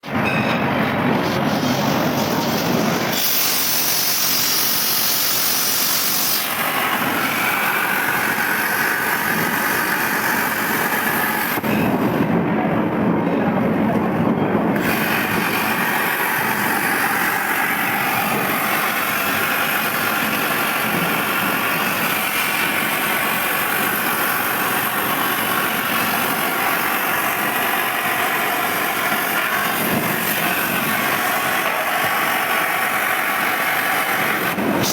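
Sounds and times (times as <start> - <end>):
cutting machine noise: 0.0 - 12.4, 14.5 - 34.9.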